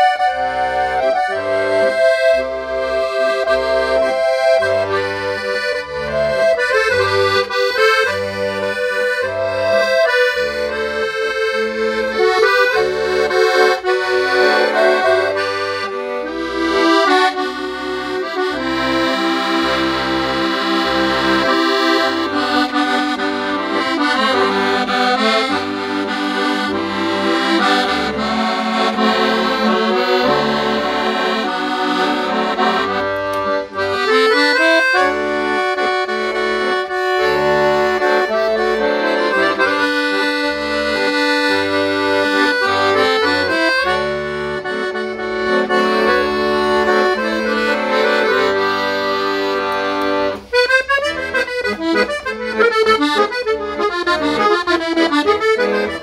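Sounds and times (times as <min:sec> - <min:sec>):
piano accordion playing a tune: 0:00.0 - 0:56.0.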